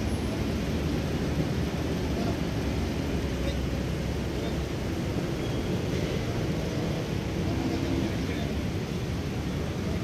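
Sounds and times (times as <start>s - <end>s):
car engines rumbling: 0.0s - 10.0s
outdoor background noise: 0.0s - 10.0s.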